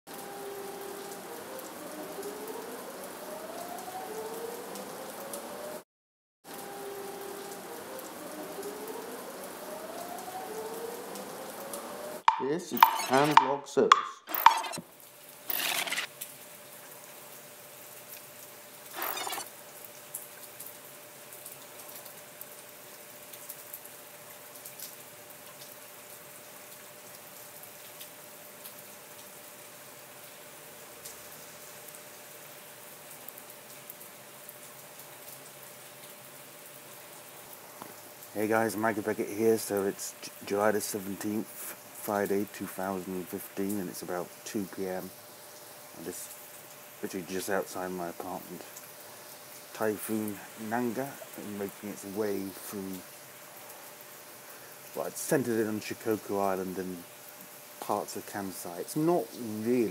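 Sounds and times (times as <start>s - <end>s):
heavy rain falling: 0.1s - 5.8s, 6.5s - 12.2s, 14.9s - 59.9s.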